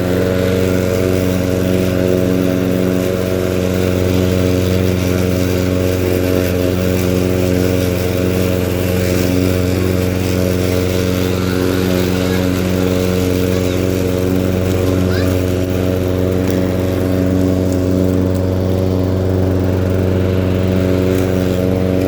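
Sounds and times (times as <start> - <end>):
lawn mower engine humming: 0.0 - 22.0.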